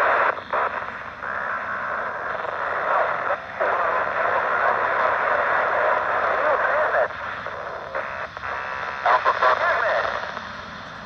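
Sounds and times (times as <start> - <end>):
faint unintelligible radio traffic: 0.0 - 11.0
radio speaker hissing: 0.0 - 11.0.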